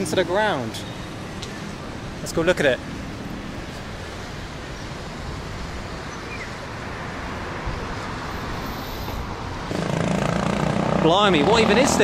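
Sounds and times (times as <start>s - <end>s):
city street traffic hum: 0.0s - 12.0s.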